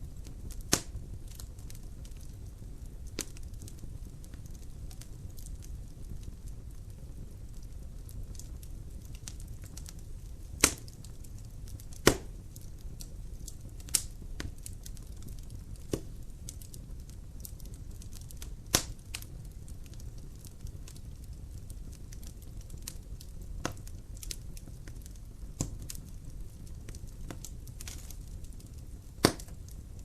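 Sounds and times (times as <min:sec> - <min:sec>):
fire crackling pops: 0:00.0 - 0:30.0
fire rumbling: 0:00.0 - 0:30.0.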